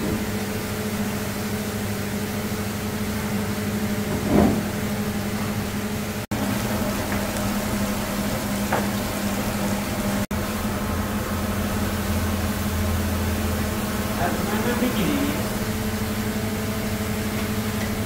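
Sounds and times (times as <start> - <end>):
low hum of kitchen machinery: 0.0 - 18.0.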